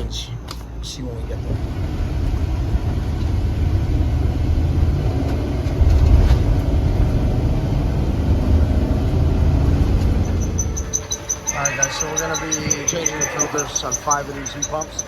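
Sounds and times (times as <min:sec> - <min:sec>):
road noise inside cab: 0:00.0 - 0:15.0
vehicle engine rumble: 0:00.0 - 0:15.0.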